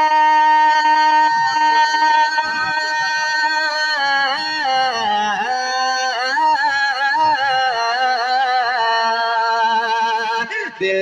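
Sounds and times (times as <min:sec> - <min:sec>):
man singing devotional verse: 0:00.0 - 0:11.0.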